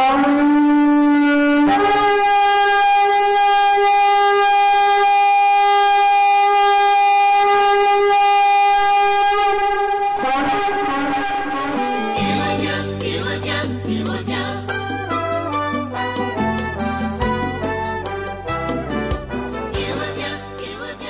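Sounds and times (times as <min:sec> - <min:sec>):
blown horn blast: 0:00.0 - 0:13.7, 0:14.6 - 0:21.0.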